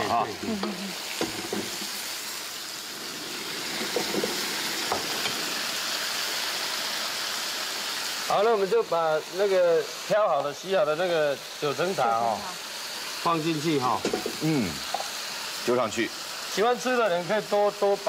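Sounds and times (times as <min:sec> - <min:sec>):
tofu sizzling in a pan: 0:00.0 - 0:18.0.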